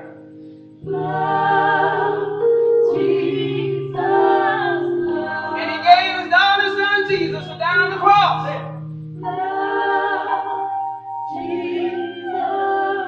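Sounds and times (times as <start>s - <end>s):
gospel choir singing: 0.0s - 13.0s
low held accompaniment notes: 0.0s - 13.0s.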